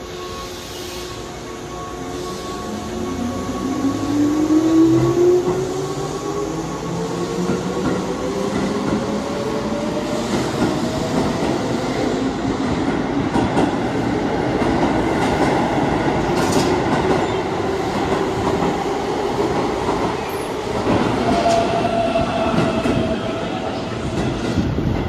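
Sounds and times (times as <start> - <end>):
train wheels rumbling on rail: 0.2 - 25.0.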